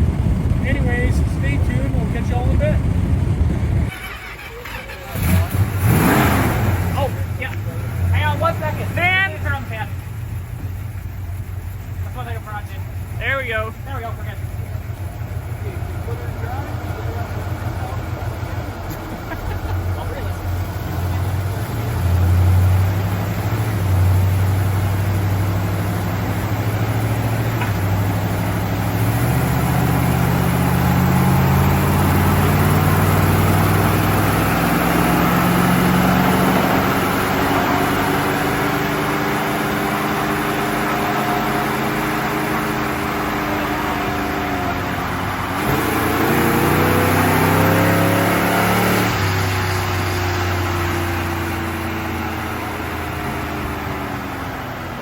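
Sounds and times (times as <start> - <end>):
car engine under full load: 0.0 - 55.0.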